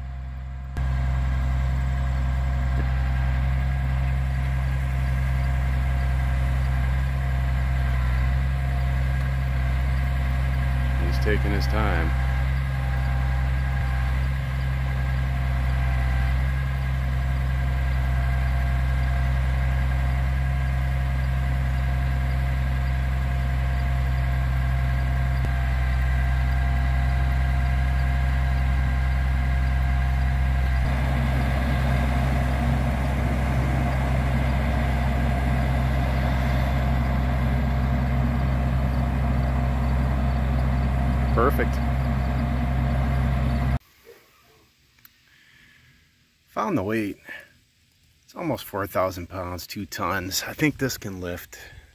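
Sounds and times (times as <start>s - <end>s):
hydraulic whine: 0.0s - 43.8s
truck engine running: 0.0s - 43.8s.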